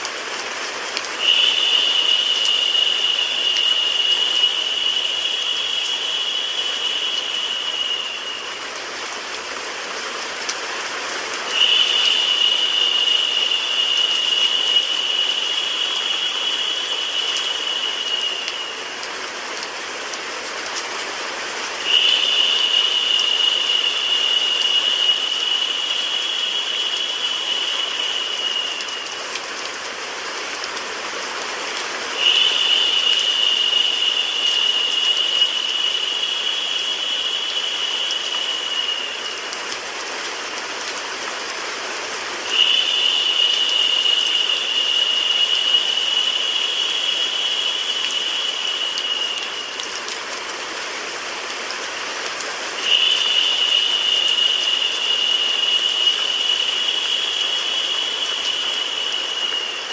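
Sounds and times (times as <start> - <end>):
high-pitched hiss: 0.0 - 20.6, 21.2 - 30.9, 31.5 - 40.6, 41.5 - 59.9
steady rain: 0.0 - 59.9.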